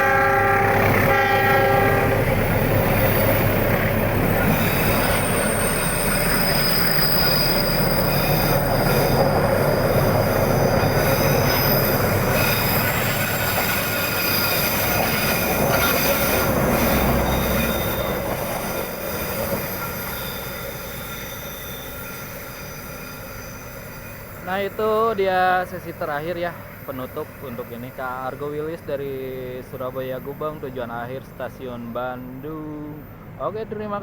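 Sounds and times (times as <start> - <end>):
train rumble: 0.0 - 34.0
train wheels squealing on rails: 0.0 - 34.0.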